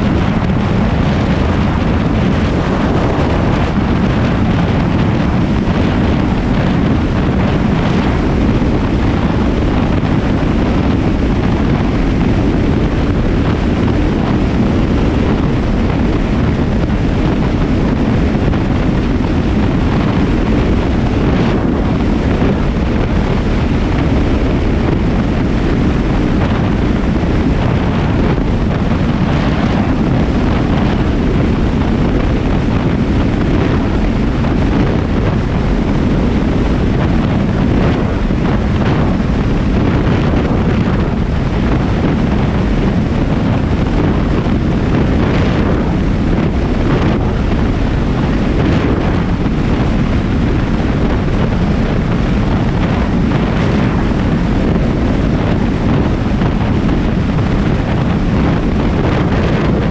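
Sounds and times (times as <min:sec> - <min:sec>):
road and engine noise: 0:00.0 - 0:59.9
wind buffeting microphone: 0:00.0 - 0:59.9.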